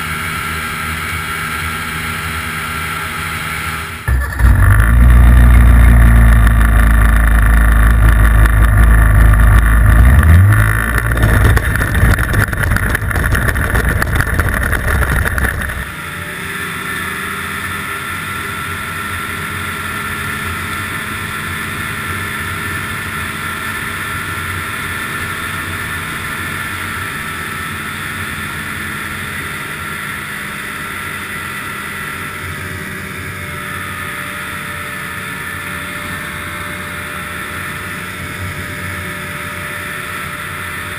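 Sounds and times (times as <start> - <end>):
snowmobile engine: 0.0 - 40.9.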